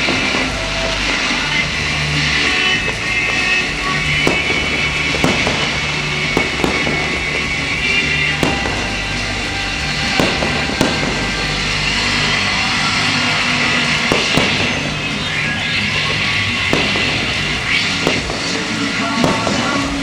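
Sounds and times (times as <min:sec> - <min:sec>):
fireworks bangs: 0:00.0 - 0:20.0
loud music: 0:00.0 - 0:20.0.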